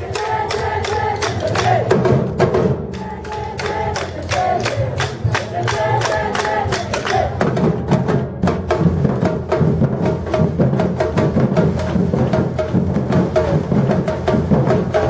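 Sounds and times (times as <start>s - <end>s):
low drums: 0.0s - 15.0s
percussion group drumming: 0.0s - 15.0s.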